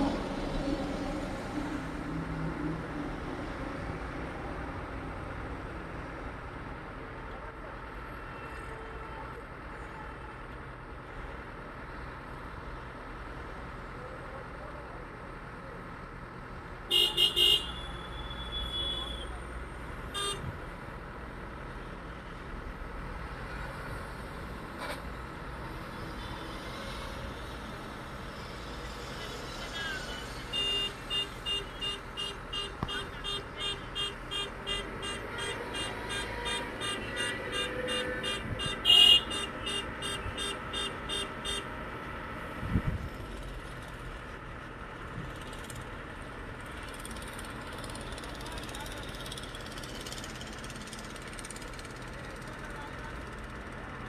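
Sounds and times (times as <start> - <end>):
diesel engines rumbling: 0.0 - 54.0.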